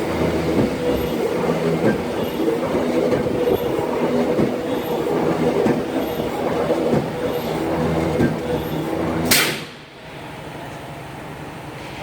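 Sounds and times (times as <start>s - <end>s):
machine knocks and clanks: 0.0s - 9.8s
press machine humming: 0.0s - 9.8s.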